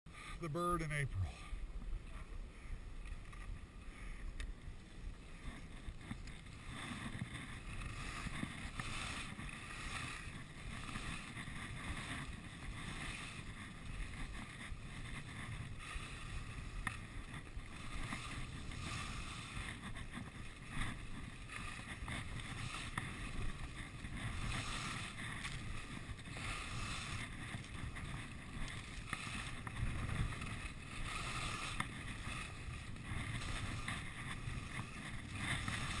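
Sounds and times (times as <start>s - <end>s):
skis scraping on snow: 0.1s - 36.0s
wind on microphone: 0.9s - 36.0s.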